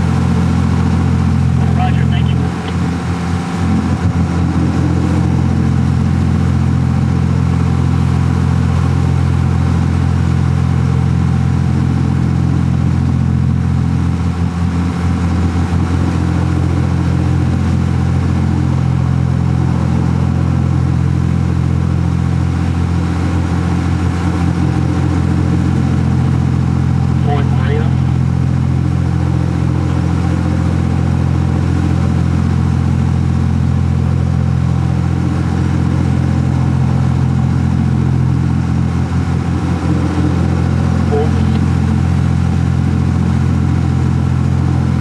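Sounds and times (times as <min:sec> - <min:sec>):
boat engine drone: 0:00.0 - 0:45.0.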